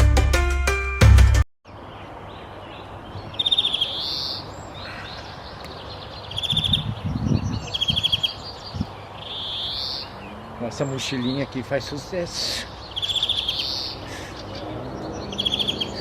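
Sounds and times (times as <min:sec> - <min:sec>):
outdoor background noise: 0:01.6 - 0:16.0
bird singing trilled phrases: 0:01.7 - 0:16.0.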